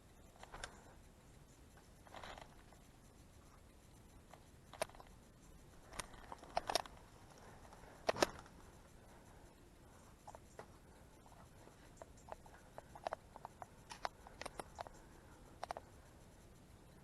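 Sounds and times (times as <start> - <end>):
sharp clicks: 0.0 - 17.0.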